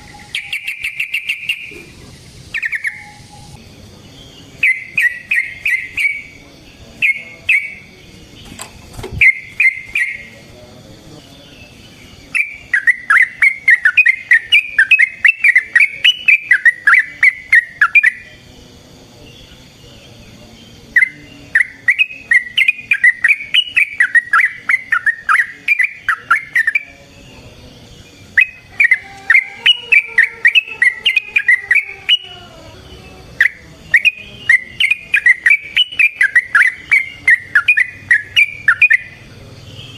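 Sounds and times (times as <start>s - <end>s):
bird singing rapid chirps: 0.0s - 39.9s.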